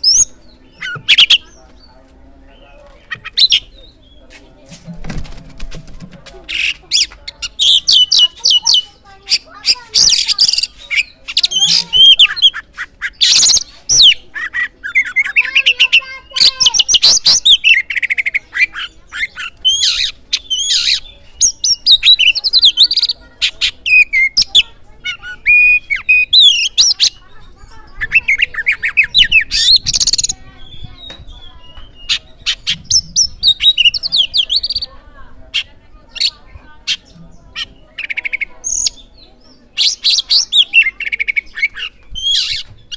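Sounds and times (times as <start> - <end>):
harsh rasping bird calls: 0.0 - 4.4, 6.4 - 42.9.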